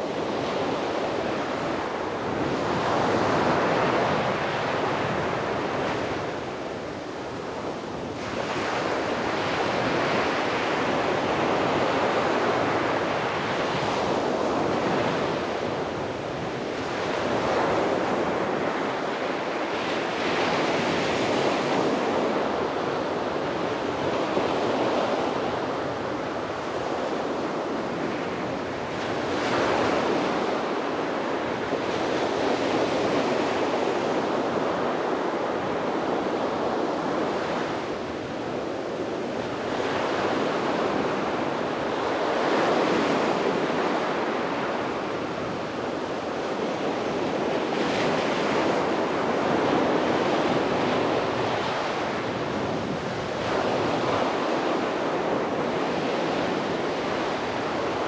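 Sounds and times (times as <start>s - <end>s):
sea waves breaking on a beach: 0.0s - 58.0s
wind on the microphone: 0.0s - 58.0s.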